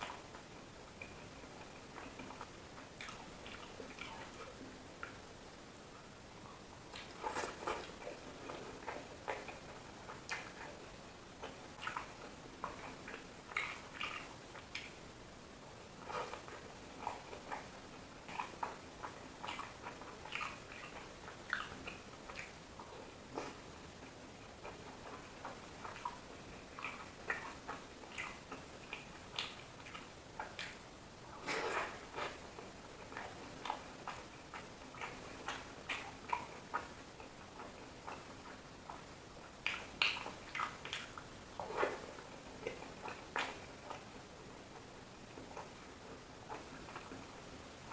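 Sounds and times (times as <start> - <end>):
person chewing with wet smacks: 0.0 - 47.9.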